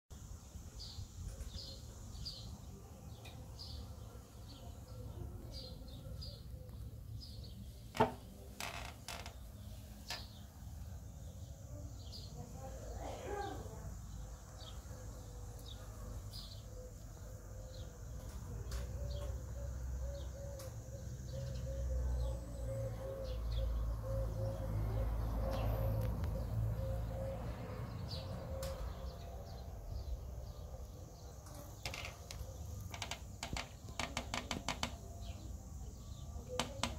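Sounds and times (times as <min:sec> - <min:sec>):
small birds chirping: 0:00.2 - 0:36.9.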